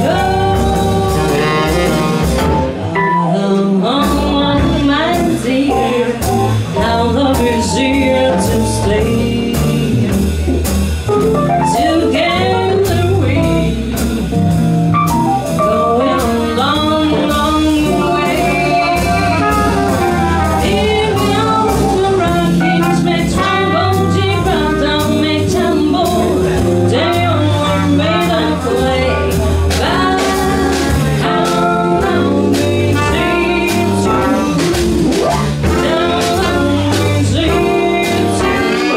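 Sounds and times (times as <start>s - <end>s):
woman singing: 0.0s - 10.3s, 11.6s - 14.3s, 15.5s - 38.9s
swing jazz band playing: 0.0s - 38.9s.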